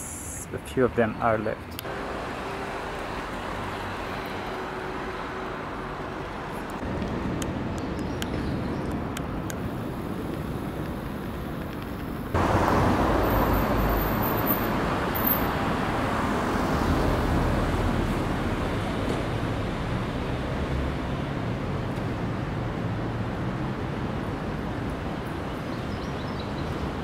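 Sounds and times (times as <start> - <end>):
road traffic rush: 0.0 - 27.0.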